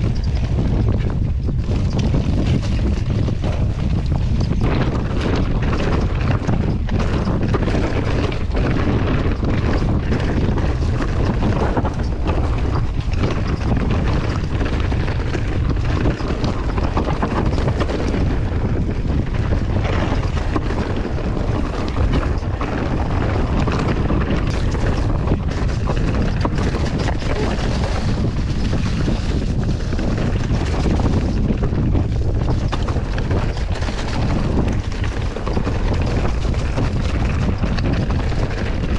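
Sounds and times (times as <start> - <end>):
knocks and rattles from bumps: 0.0 - 38.9
tyres rolling rumble: 0.0 - 38.9
wind buffeting microphone: 0.0 - 38.9.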